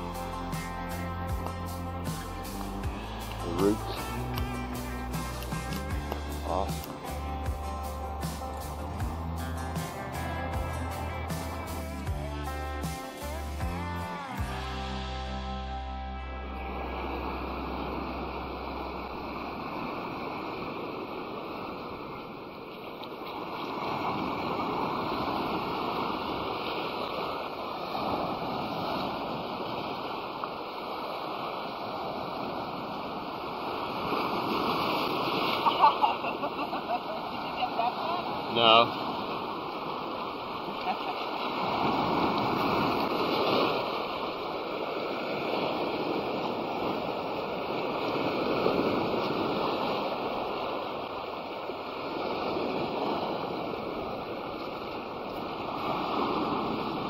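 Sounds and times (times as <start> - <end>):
ocean surf washing on beach: 0.0 - 15.3, 16.1 - 57.0.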